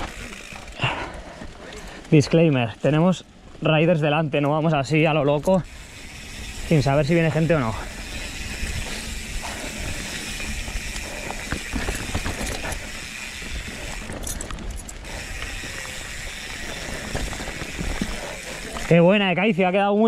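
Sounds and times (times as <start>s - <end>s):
bike chain and frame clattering: 0.0s - 20.0s
bike tyres on dirt: 0.0s - 20.0s.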